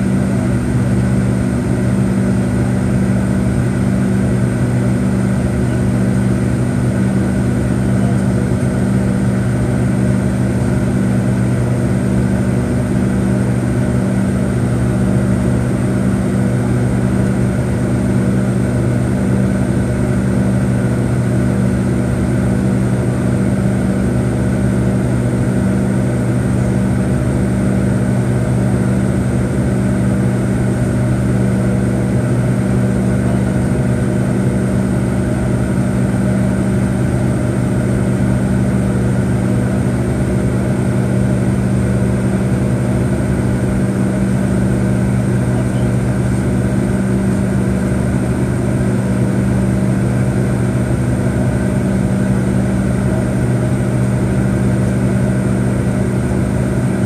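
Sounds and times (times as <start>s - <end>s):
jet cabin drone: 0.0s - 57.0s.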